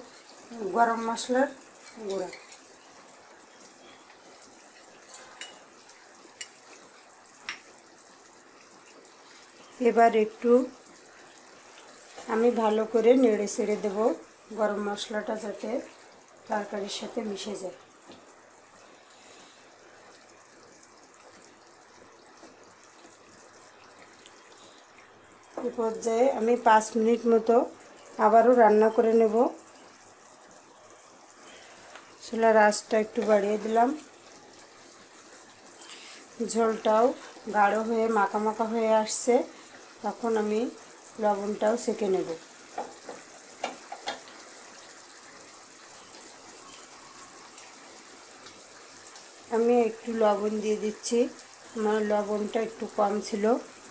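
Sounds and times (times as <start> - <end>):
curry bubbling and hissing: 0.0 - 53.9.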